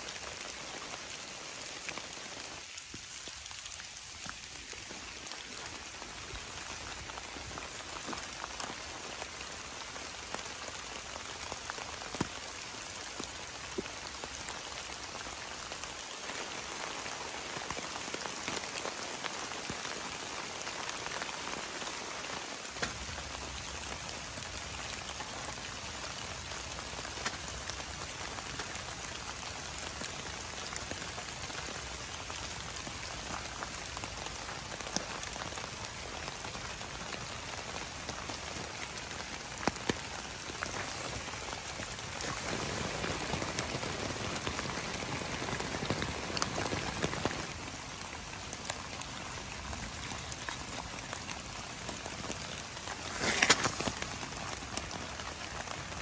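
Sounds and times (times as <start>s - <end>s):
close raindrops striking: 0.0s - 56.0s
heavy rain falling: 0.0s - 56.0s.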